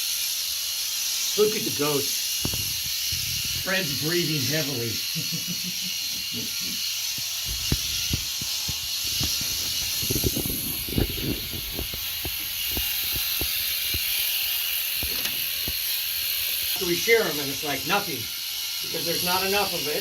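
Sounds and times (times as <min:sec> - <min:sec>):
electric shears buzzing: 0:00.0 - 0:20.0.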